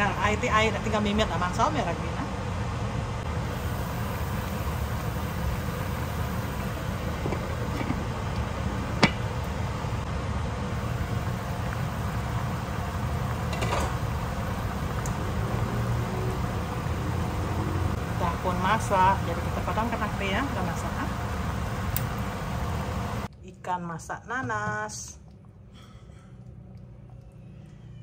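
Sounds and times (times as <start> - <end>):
broth boiling in a pan: 0.0 - 28.0.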